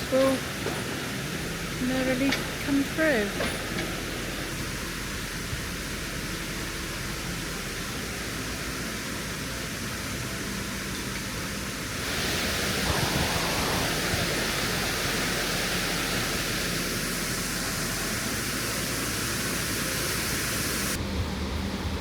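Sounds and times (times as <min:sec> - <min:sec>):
water rushing through lock gate: 0:00.0 - 0:21.0.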